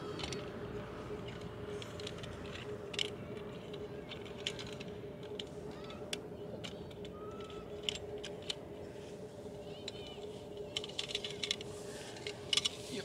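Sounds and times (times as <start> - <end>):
bike clicks and rattles: 0.0 - 13.0
steady low hum: 0.0 - 13.0.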